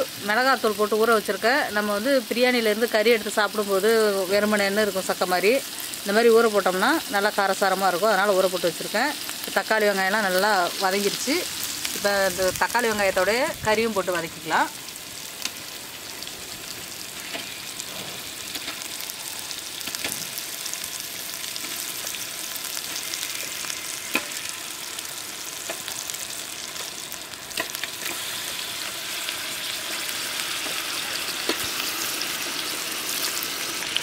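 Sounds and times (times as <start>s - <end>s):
masala sizzling in hot oil: 0.0s - 34.0s.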